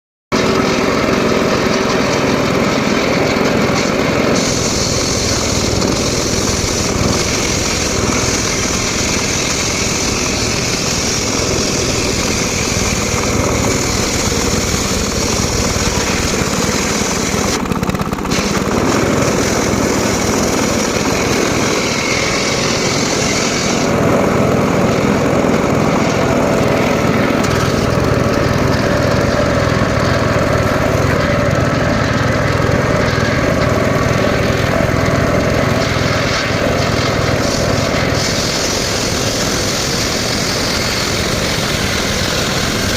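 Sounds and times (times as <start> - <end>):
small engine running: 0.3 - 42.9
saw blade hissing in wood: 0.4 - 17.6, 18.2 - 42.9.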